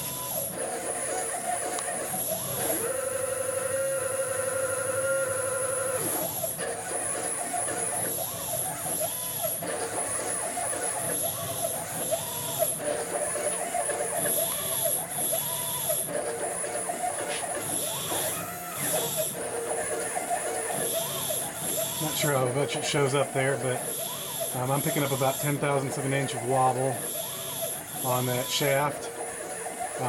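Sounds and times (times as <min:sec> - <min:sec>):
stepper motors whining: 0:00.0 - 0:30.0.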